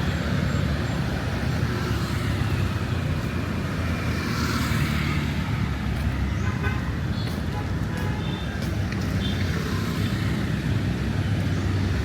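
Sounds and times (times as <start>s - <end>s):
rumble of passing traffic: 0.0s - 12.0s.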